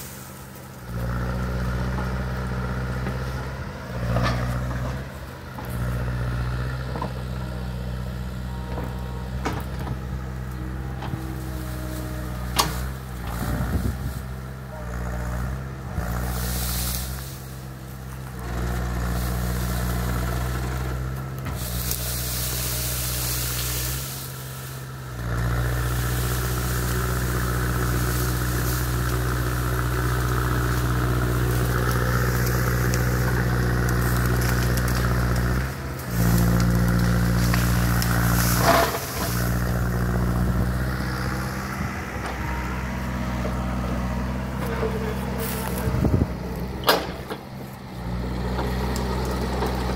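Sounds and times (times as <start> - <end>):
excavator diesel engine working: 0.0 - 49.9.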